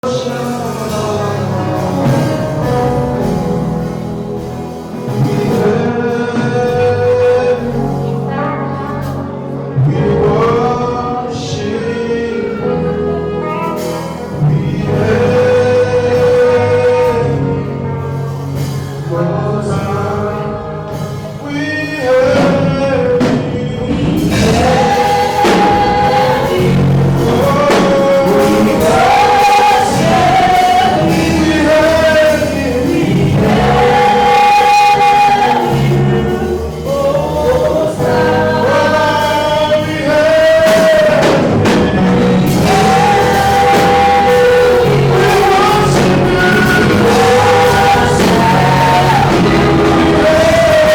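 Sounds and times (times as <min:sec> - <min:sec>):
choir singing held notes: 0:00.0 - 0:50.9
instrumental backing: 0:00.0 - 0:50.9.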